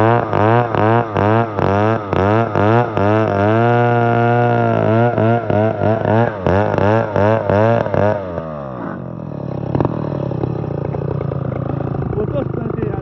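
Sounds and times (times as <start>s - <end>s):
chainsaw running and idling: 0.0s - 13.0s.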